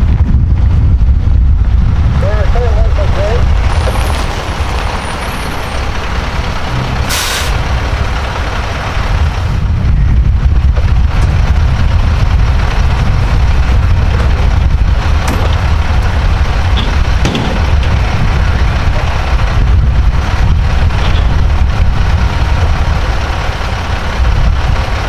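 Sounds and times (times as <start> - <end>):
truck diesel engine idling: 1.8 - 25.0.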